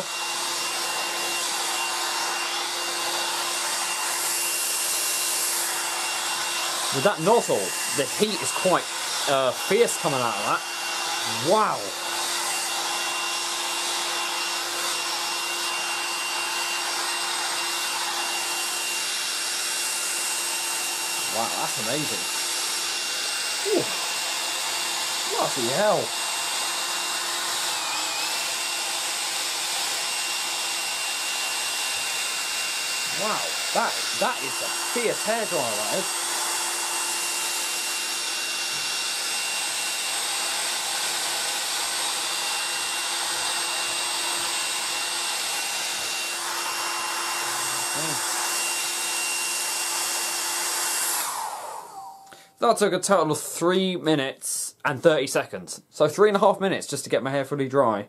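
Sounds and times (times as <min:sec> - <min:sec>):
hairdryer running: 0:00.0 - 0:52.6.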